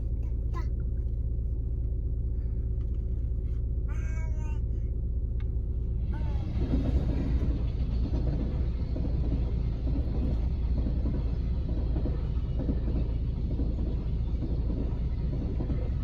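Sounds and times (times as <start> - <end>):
steady low hum: 0.0 - 16.0
wheels rumbling on rail: 0.0 - 16.0.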